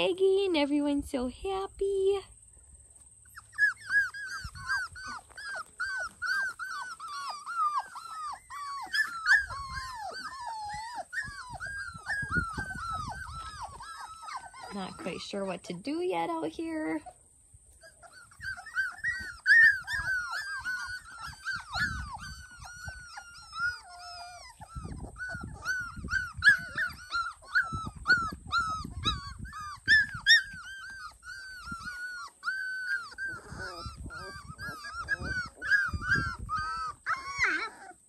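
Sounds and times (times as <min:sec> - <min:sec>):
puppies whimpering: 0:03.2 - 0:38.0.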